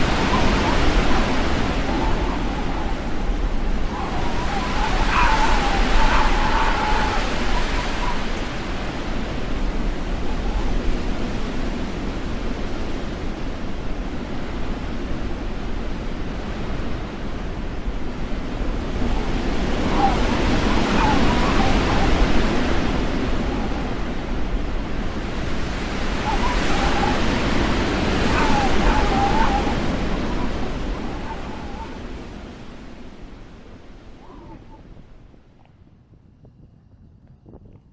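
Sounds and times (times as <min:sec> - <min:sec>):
storm wind gusting: 0:00.0 - 0:37.9
wind buffeting microphone: 0:00.0 - 0:37.9.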